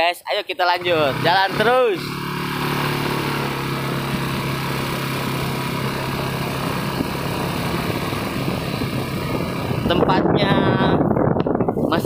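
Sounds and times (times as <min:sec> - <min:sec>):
small motorcycle engine running: 0:00.7 - 0:11.0.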